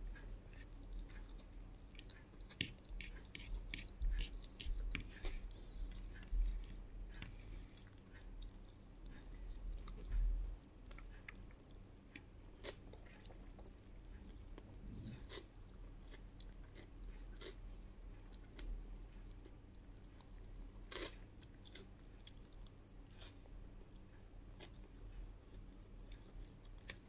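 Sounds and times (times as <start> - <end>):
person chewing food: 0.1 - 27.0.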